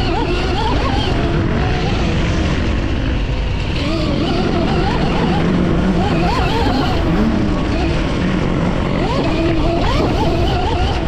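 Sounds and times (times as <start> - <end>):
wind and trail noise: 0.0 - 11.0.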